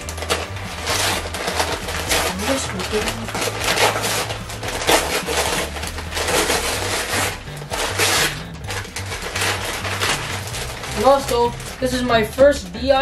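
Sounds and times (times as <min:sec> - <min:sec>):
background music with bass line: 0:00.0 - 0:13.0
wrapping rustling and crinkling: 0:00.0 - 0:13.0.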